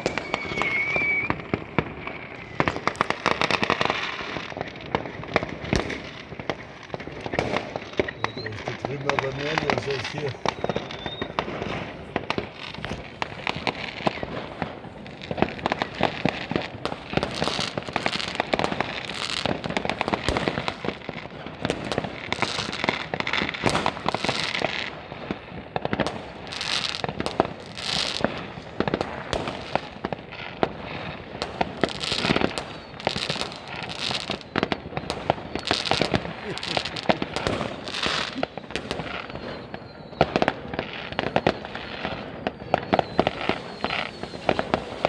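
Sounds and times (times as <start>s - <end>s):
fireworks bangs and pops: 0.0s - 45.0s
fireworks hissing and crackling: 0.0s - 45.0s.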